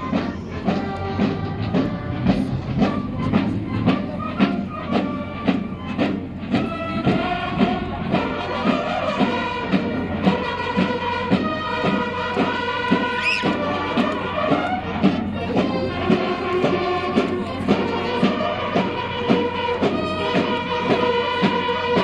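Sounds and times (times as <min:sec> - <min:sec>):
military band playing a march: 0:00.0 - 0:22.0.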